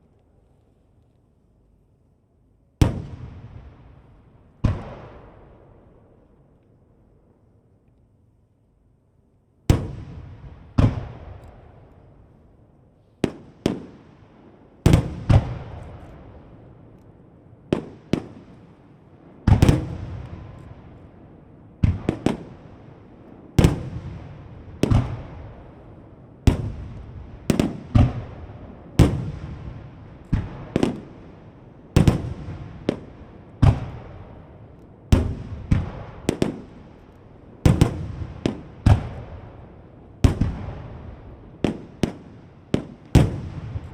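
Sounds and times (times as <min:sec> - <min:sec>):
fireworks bangs with echo: 0:02.8 - 0:06.0, 0:09.7 - 0:11.9, 0:13.2 - 0:16.8, 0:17.7 - 0:43.9.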